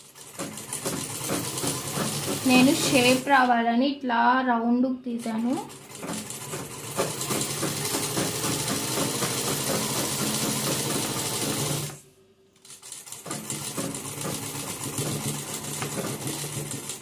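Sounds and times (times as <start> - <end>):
sewing machine running: 0.0 - 3.4, 5.2 - 12.0, 12.6 - 17.0.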